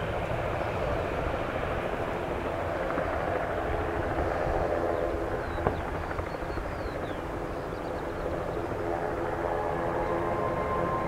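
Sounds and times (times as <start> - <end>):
helicopter engines and rotor: 0.0 - 11.0.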